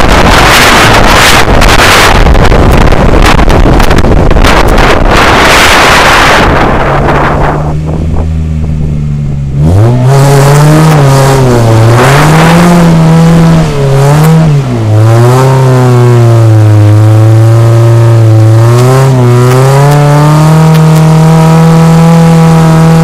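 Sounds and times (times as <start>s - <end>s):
rally car engine revving: 0.0s - 23.0s
wind rushing over microphone: 0.0s - 23.0s.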